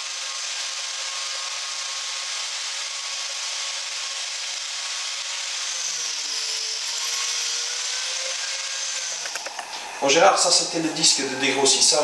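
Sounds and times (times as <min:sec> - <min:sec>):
angle grinder motor whine: 0:00.0 - 0:12.0.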